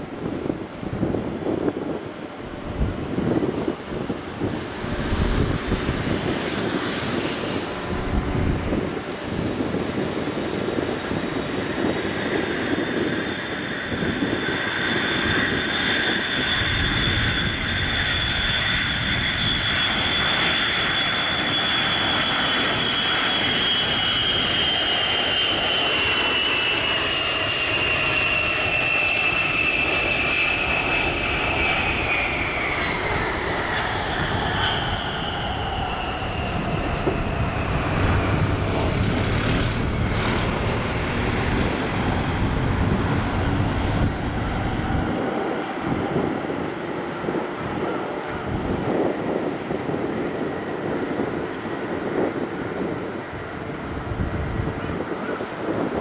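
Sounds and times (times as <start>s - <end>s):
jet engines whining: 0.0s - 56.0s
jet rumble: 0.0s - 56.0s.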